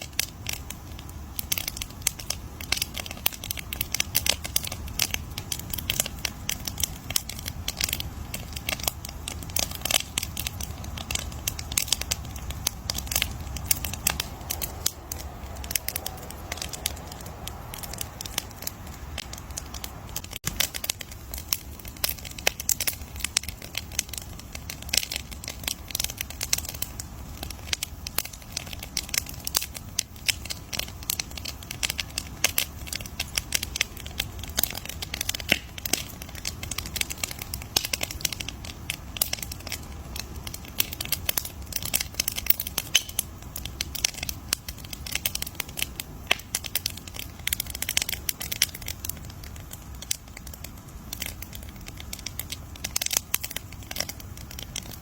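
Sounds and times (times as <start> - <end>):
campfire crackling and popping: 0.0 - 55.0
low rumble of fire: 0.0 - 55.0.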